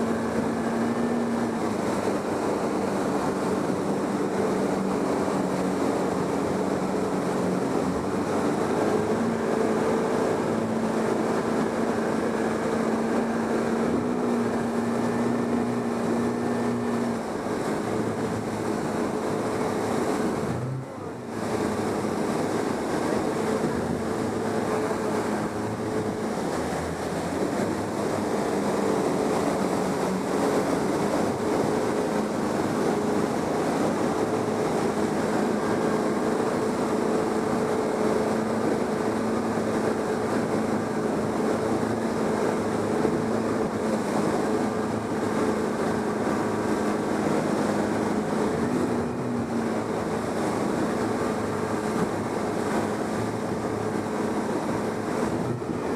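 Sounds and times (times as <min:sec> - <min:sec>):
motor running steadily: 0:00.0 - 0:55.9
water rushing: 0:00.0 - 0:55.9.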